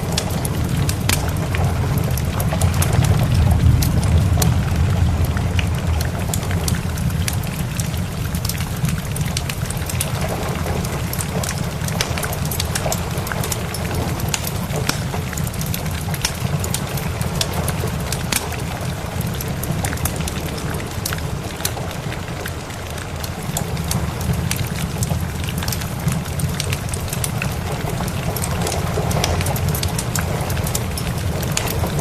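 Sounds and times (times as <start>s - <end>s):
steady rain: 0.0s - 32.0s
wood fire crackling: 0.0s - 32.0s.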